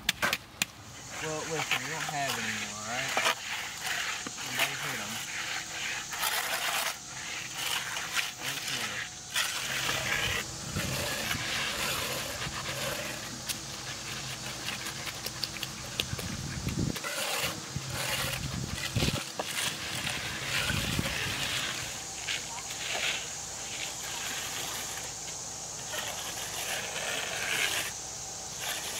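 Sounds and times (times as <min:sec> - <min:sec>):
trowel scraping wet concrete: 0:00.1 - 0:00.4, 0:01.0 - 0:28.9.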